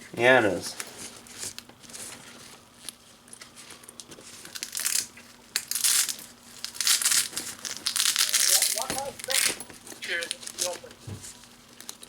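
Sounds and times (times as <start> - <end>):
packaging crinkling rustles: 0.8 - 12.0.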